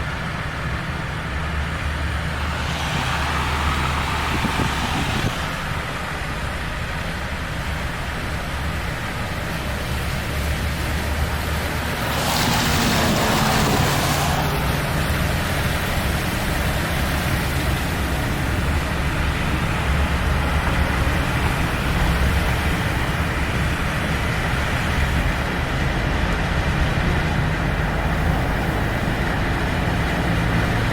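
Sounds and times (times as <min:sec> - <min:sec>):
loud hissing rush: 0:00.0 - 0:25.8
car engine and tyre noise: 0:00.0 - 0:30.9.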